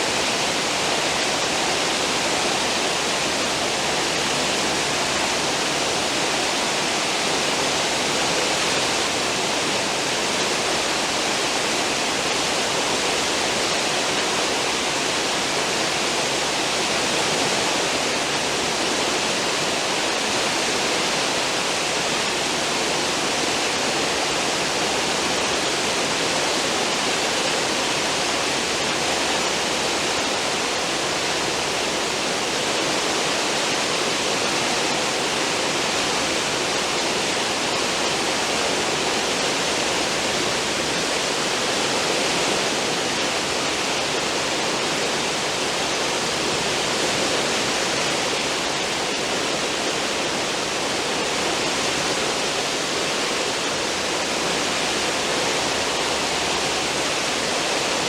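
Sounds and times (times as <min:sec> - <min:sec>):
churning seawater rushing: 0:00.0 - 0:58.0.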